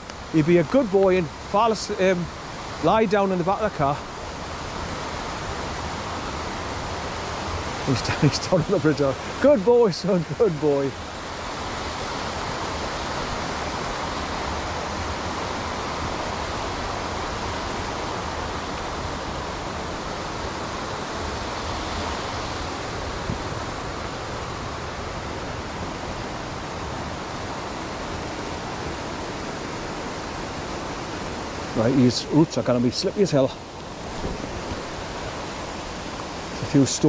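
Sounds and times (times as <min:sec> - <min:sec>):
waterfall and brook rushing: 0:00.0 - 0:37.0.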